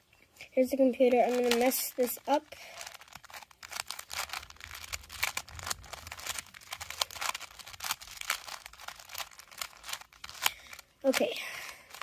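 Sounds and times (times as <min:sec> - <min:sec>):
puzzle cube clicking and rattling: 0:01.0 - 0:12.0.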